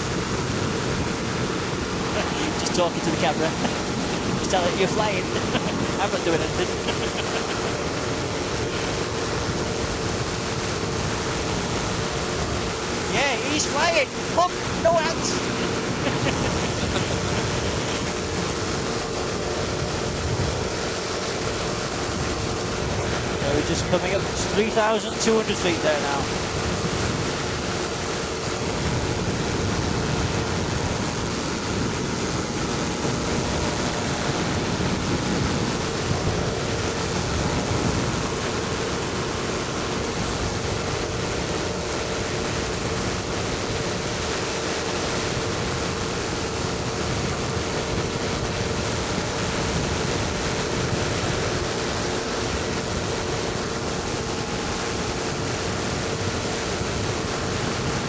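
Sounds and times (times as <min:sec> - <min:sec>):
engine drone: 0:00.0 - 0:58.0
rush of airflow: 0:00.0 - 0:58.0.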